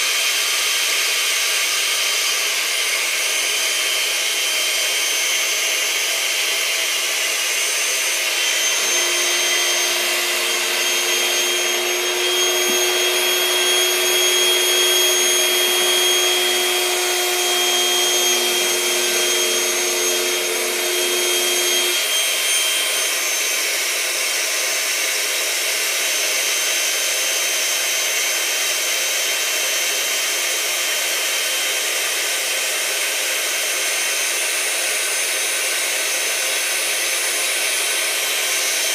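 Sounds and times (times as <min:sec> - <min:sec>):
electric air pump running: 0:00.0 - 0:38.9.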